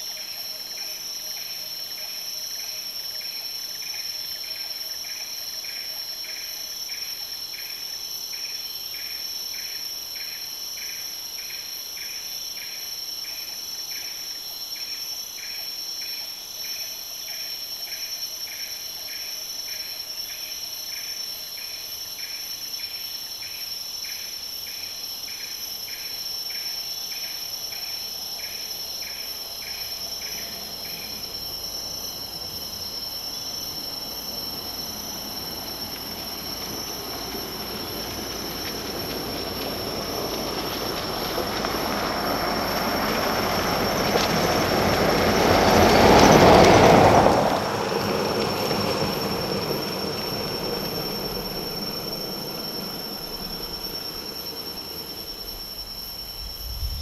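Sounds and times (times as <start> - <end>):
insects droning: 0.0 - 57.0
pulsed insect call: 0.0 - 57.0.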